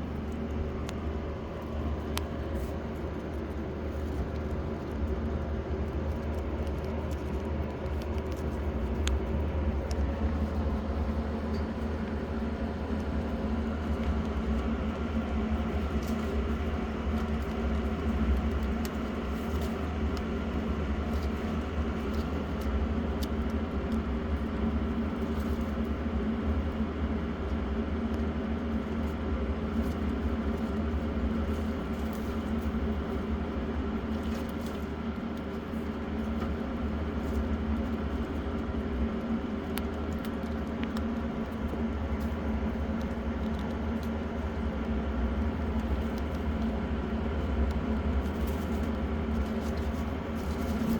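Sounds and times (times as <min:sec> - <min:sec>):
electric fan humming: 0:00.0 - 0:50.9.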